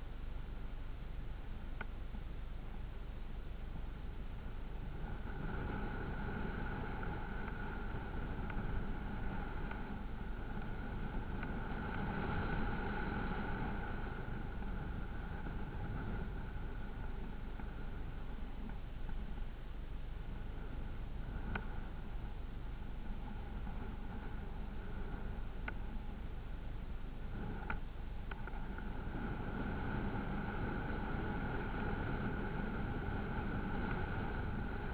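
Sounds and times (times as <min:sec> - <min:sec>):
steady tone: 0:00.0 - 0:34.9
vehicle engine rumble and whine: 0:00.0 - 0:34.9.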